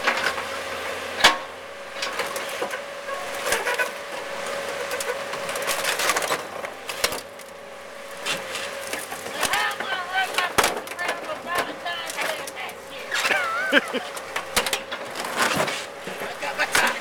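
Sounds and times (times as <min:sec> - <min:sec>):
excavator machine whine: 0:00.0 - 0:17.0.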